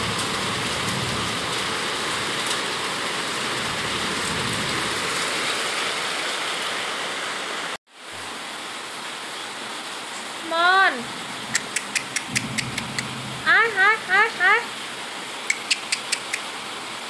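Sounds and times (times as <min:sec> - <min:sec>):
heavy rain pouring: 0:00.0 - 0:15.5, 0:16.4 - 0:17.0.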